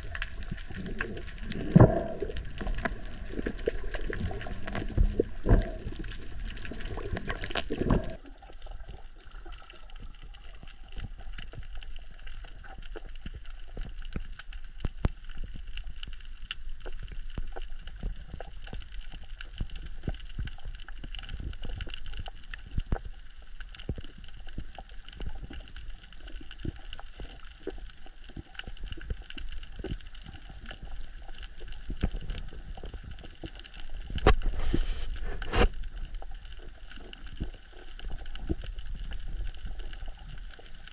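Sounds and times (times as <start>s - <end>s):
water bubbling and churning: 0.0s - 14.0s, 18.0s - 40.9s
crackle of small clicks: 0.0s - 40.9s
muffled underwater hiss: 0.0s - 40.9s.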